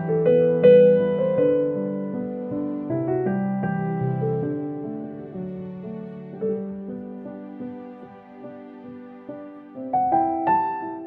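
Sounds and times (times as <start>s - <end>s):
slow keyboard music: 0.0s - 11.0s.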